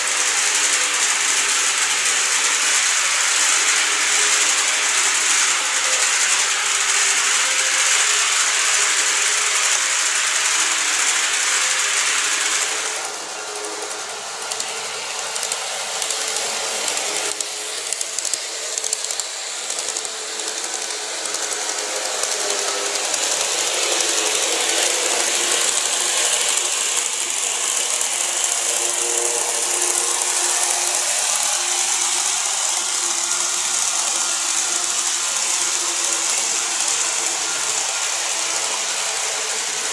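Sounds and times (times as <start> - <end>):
model train whirring and rattling: 0.0 - 39.9.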